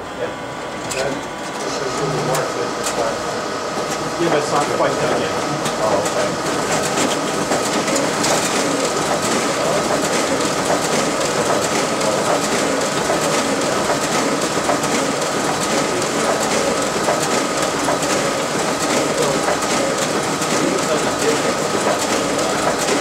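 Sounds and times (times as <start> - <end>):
printer rattling clicks: 3.8 - 23.0.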